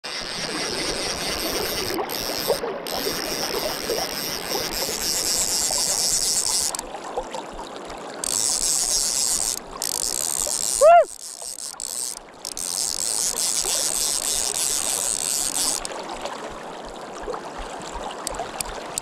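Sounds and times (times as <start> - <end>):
river current rushing: 0.0 - 7.1, 8.0 - 16.6.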